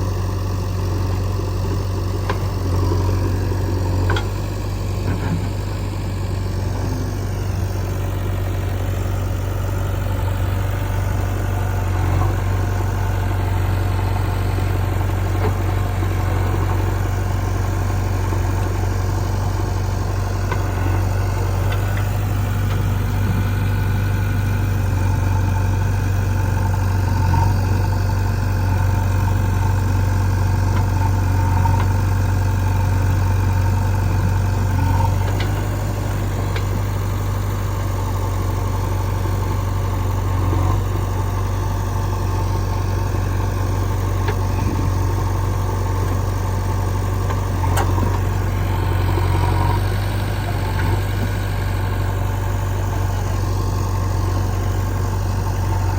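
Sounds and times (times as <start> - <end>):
diesel engine humming: 0.0 - 55.9.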